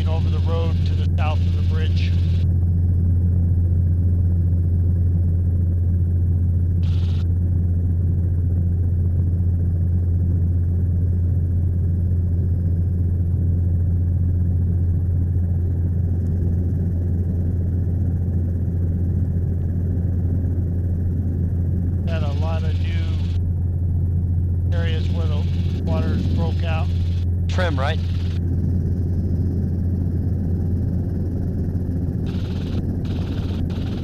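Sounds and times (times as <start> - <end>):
helicopter rotor and engine drone: 0.0 - 34.0.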